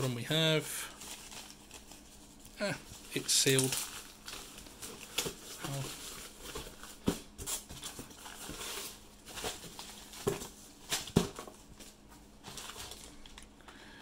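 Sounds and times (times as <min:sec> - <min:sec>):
plastic and paper rustling: 0:00.0 - 0:13.6.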